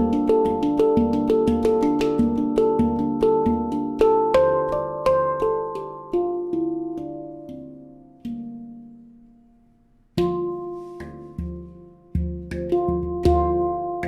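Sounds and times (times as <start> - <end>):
handpan notes: 0.0 - 14.0.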